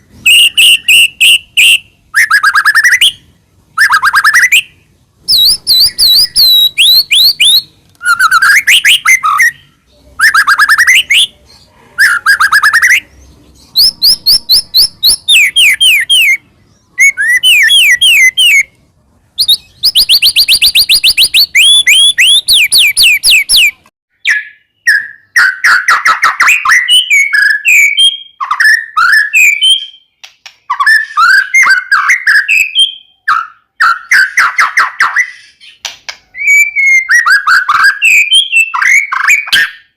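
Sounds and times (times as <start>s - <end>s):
bird singing whistled trills: 0.2s - 11.4s, 12.0s - 18.7s, 19.4s - 39.9s.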